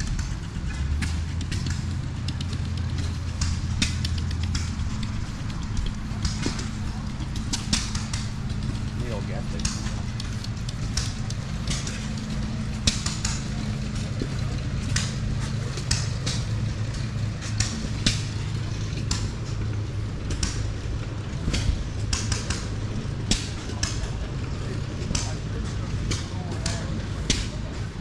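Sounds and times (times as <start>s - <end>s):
crackling ticks: 0.0s - 24.2s
engine humming steadily: 0.0s - 28.0s.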